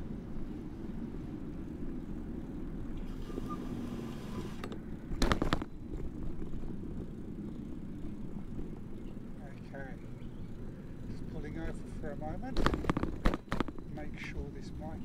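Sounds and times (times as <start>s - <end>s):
vehicle road rumble: 0.0s - 15.0s.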